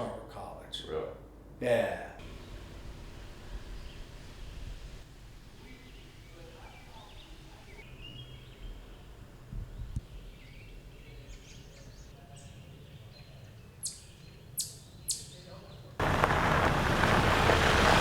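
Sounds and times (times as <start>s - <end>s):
birds chirping: 2.2s - 18.0s.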